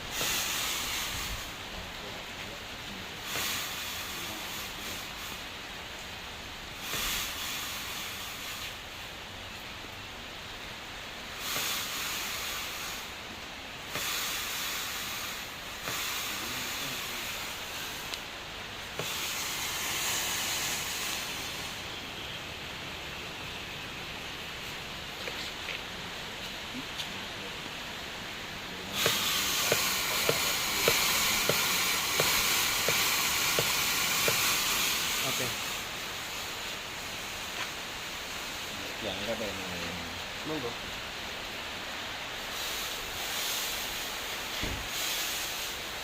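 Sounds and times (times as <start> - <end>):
fog machine hissing: 0.0 - 46.0.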